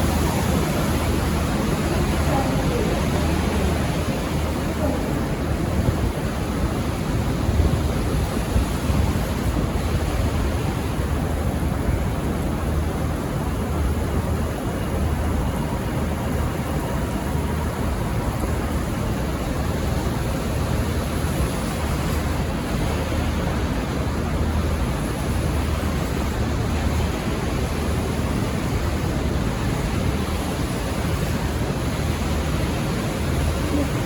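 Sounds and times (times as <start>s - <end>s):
diesel railcar rumble: 0.0s - 34.0s.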